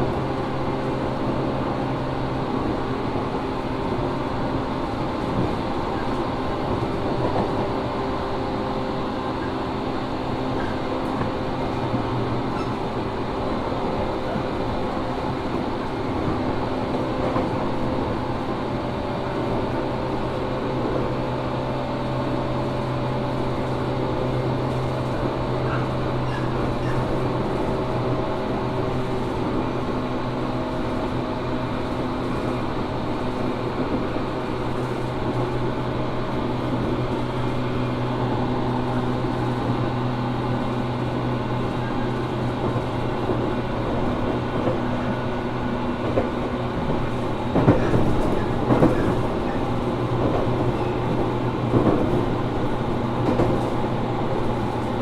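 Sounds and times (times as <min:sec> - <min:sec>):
rail noise: 0:00.0 - 0:55.0
train motor hum: 0:00.0 - 0:55.0.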